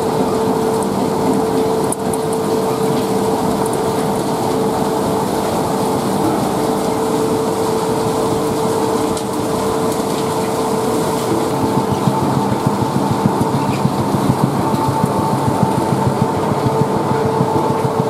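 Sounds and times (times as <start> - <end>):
machinery din with motor hum: 0.0 - 18.0.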